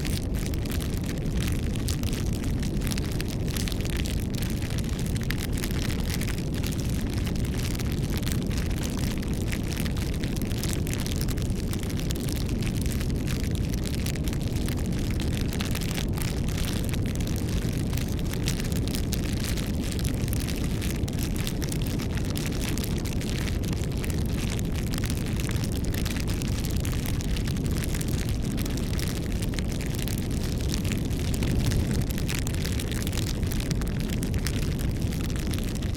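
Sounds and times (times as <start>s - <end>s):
burning wood crackling and popping: 0.0s - 35.9s
campfire flames rumbling: 0.0s - 35.9s.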